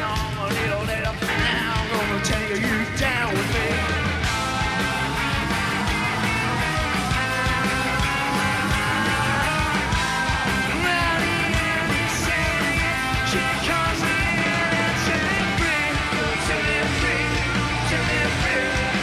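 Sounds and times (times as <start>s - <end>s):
man singing lead vocal: 0.0s - 4.1s, 5.0s - 19.0s
bass guitar: 0.0s - 19.0s
distorted electric guitars: 0.0s - 19.0s
drums: 0.0s - 19.0s.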